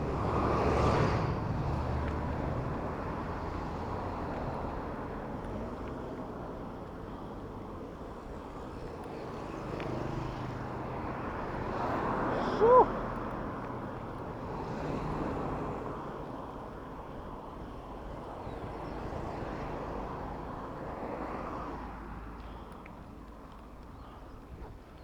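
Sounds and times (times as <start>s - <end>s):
engines rumbling: 0.0s - 25.0s
vehicles passing: 0.0s - 25.0s.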